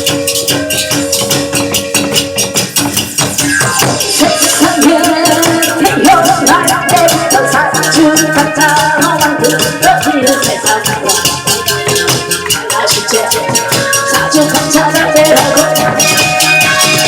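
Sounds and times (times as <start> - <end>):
fast clacking beat: 0.0 - 17.0
melody: 0.0 - 17.0.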